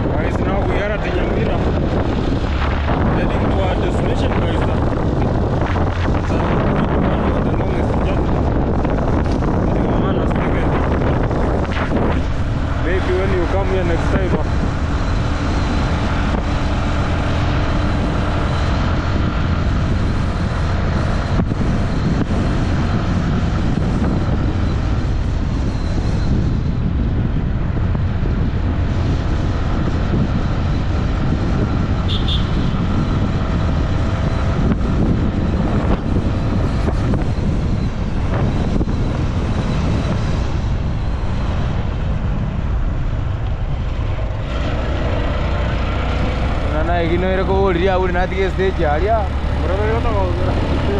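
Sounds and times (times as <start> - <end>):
vehicle engine and road noise: 0.0 - 50.9
wind rumbling on microphone: 0.0 - 50.9.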